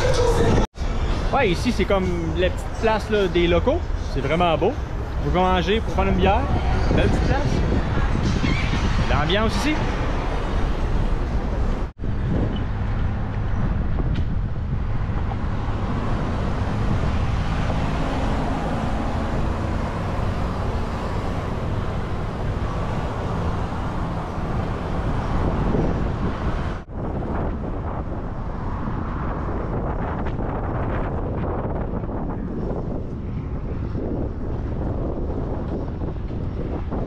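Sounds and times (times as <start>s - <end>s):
road traffic passing: 0.0s - 37.0s
wind rushing over microphone: 0.0s - 37.0s.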